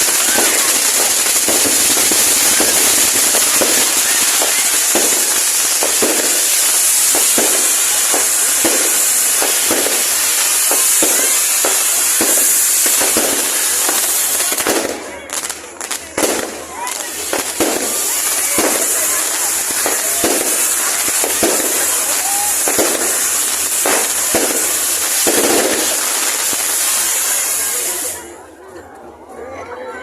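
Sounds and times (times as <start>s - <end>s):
fireworks bangs and pops: 0.0s - 28.4s
fireworks hissing: 0.0s - 28.5s.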